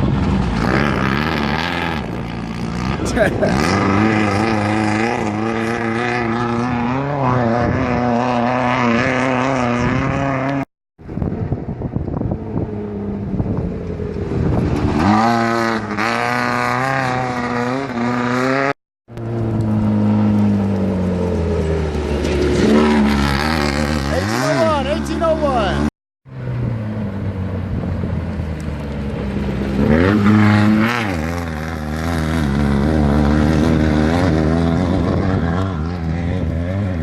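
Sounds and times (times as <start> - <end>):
off-road engines running hard: 0.0 - 37.0.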